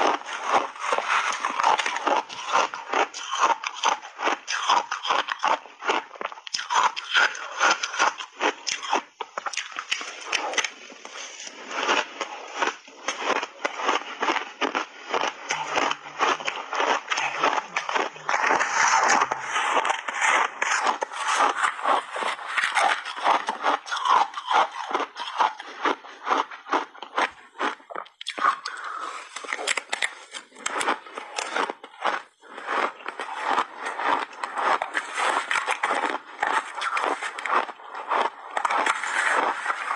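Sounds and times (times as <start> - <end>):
shaved ice crunched between teeth: 0.0 - 39.9.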